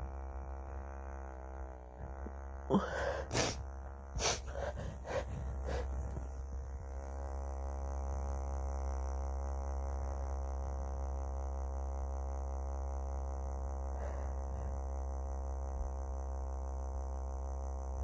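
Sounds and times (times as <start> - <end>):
vibrator motor buzzing: 0.0 - 18.0.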